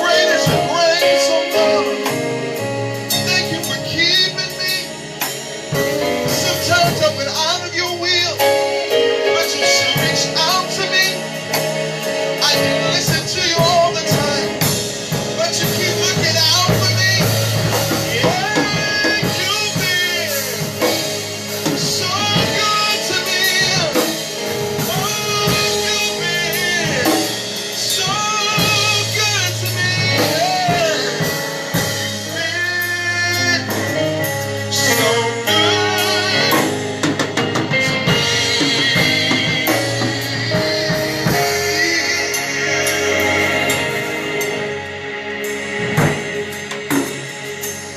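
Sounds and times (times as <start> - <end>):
band with drum kit: 0.0 - 47.9
gospel singers: 0.0 - 47.9.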